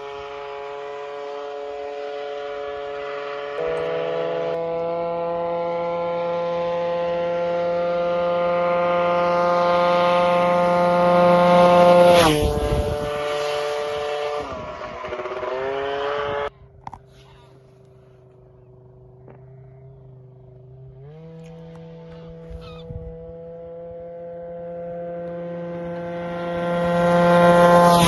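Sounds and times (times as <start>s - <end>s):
scooter engine passing by: 0.0s - 28.0s.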